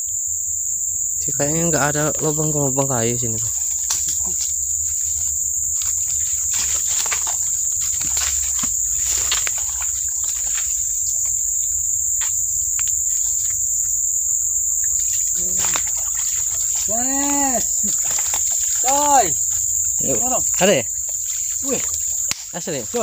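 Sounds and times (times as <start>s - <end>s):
insect drone: 0.0s - 23.0s
twigs snapping and leaves rustling: 3.2s - 23.0s.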